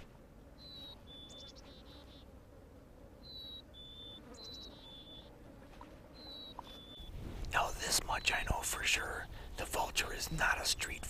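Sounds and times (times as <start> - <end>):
faint low background noise: 0.0 - 11.0.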